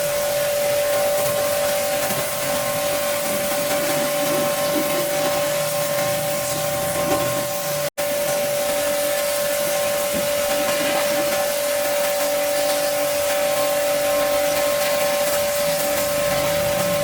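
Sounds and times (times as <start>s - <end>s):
pressure washer pump whine: 0.0s - 17.0s
water jet hissing: 0.0s - 17.0s.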